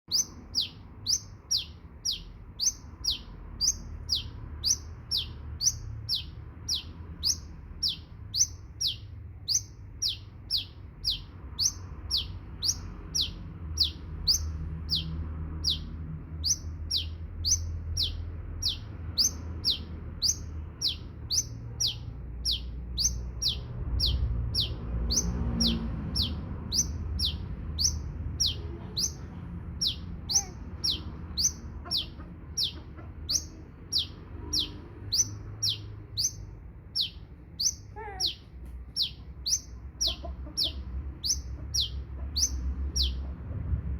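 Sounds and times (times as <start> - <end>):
bird chirping: 0.0 - 43.4
faint low rumble: 0.0 - 43.9.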